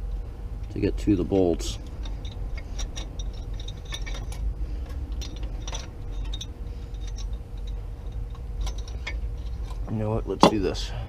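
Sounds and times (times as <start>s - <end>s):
low steady rumble: 0.0s - 11.0s
tools clicking and tapping metal: 0.6s - 10.7s.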